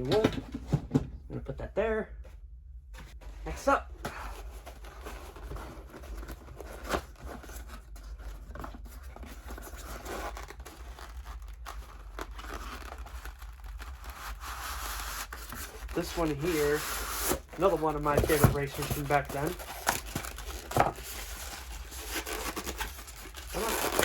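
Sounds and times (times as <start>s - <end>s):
packaging crinkling and rustling: 4.4s - 24.0s.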